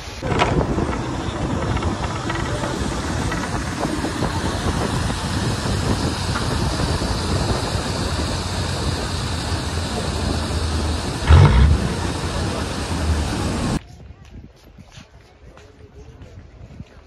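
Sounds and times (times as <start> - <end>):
constant hiss: 0.0 - 13.8
vehicle rumble: 0.0 - 13.8.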